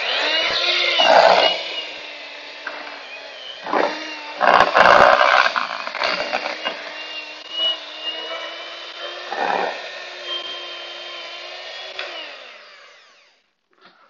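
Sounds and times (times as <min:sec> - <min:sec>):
electric hand mixer running: 0:00.0 - 0:13.5.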